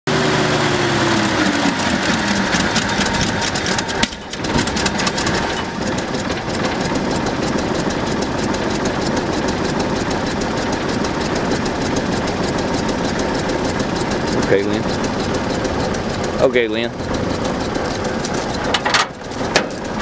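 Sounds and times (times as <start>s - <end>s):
car engine idling: 0.1s - 20.0s.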